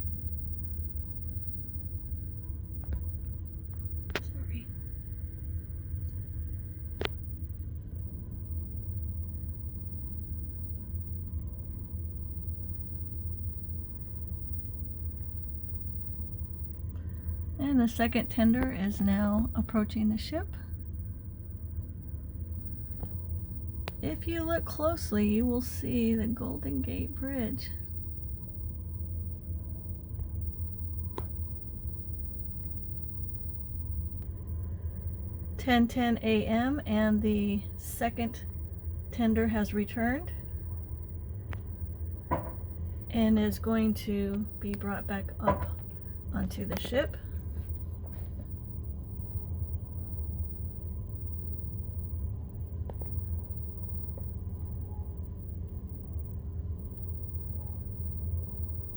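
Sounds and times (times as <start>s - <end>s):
steady low rumble: 0.0s - 58.9s.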